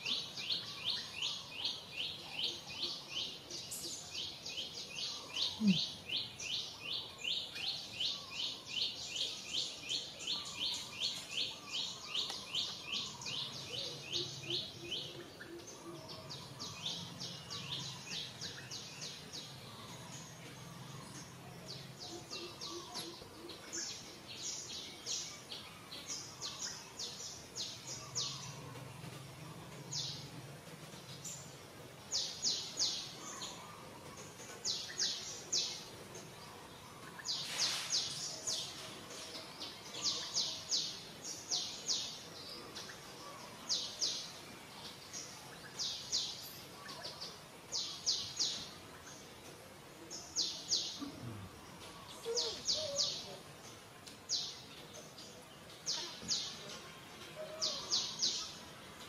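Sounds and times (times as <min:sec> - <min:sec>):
birds chirping: 0:00.0 - 0:59.0
outdoor background hiss: 0:00.0 - 0:59.0.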